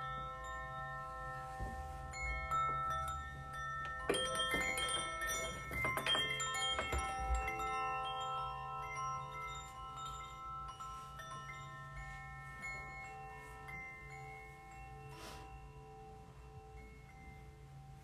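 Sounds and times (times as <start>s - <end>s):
tuned metal percussion ringing: 0.0s - 18.0s.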